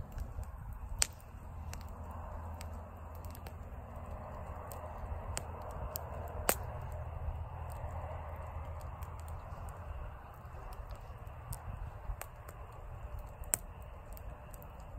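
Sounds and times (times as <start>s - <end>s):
campfire crackling and popping: 0.0s - 14.9s
low steady rumble: 0.0s - 14.9s.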